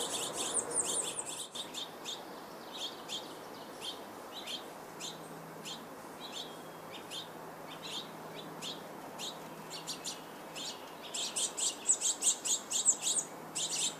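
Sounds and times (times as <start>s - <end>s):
nestling begging chirps: 0.0s - 13.9s.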